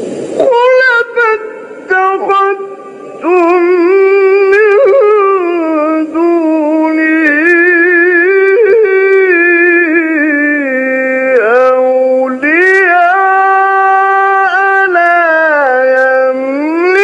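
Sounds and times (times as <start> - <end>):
man chanting: 0.3 - 17.0.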